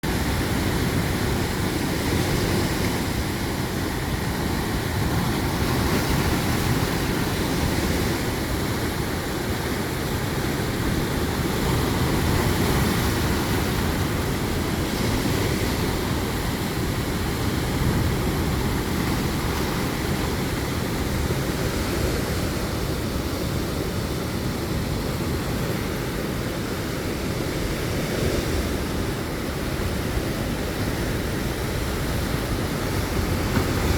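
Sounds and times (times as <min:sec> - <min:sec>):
sea waves washing in: 0:00.0 - 0:33.9
wind rumbling on microphone: 0:00.0 - 0:33.9.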